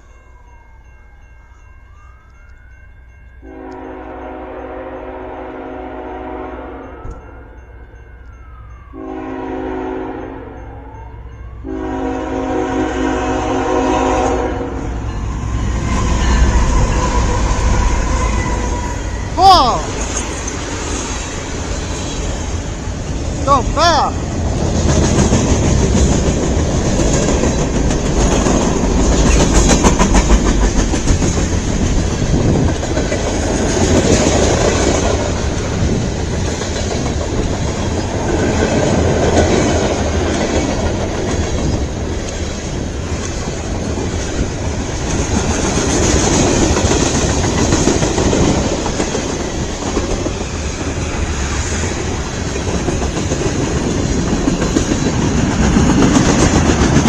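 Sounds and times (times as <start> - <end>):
freight train rumbling past: 2.7 - 57.0.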